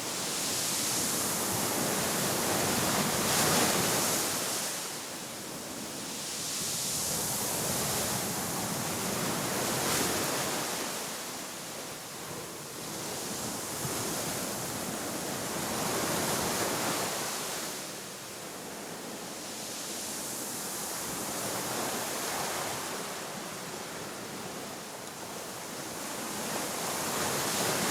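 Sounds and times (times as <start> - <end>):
sea waves washing onto shore: 0.0 - 27.9.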